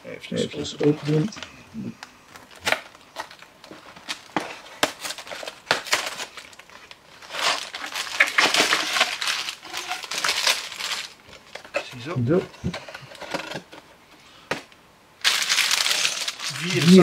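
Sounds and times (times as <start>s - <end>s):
plastic bags crinkling and rustling: 0.7s - 1.5s, 2.3s - 13.8s, 15.2s - 17.0s.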